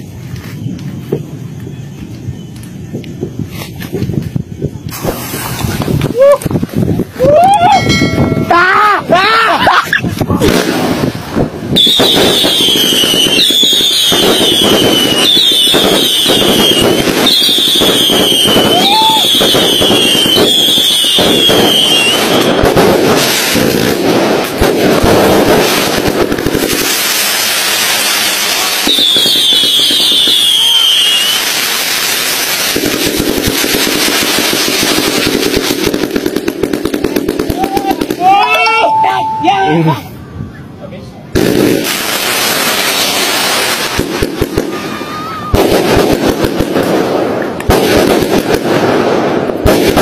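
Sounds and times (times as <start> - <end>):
firework whistle: 0.0 - 9.2, 9.8 - 35.9, 37.2 - 39.8, 41.8 - 46.2
fireworks crackling: 0.0 - 40.2, 41.0 - 50.0.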